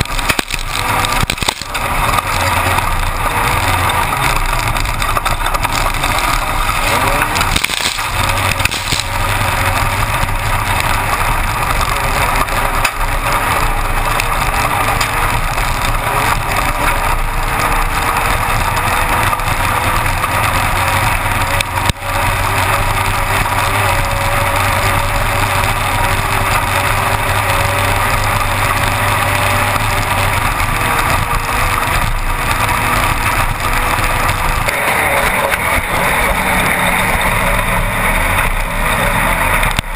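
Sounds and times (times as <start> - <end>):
race car engine running hard: 0.0 - 39.9
rattle and ground noise: 0.0 - 39.9.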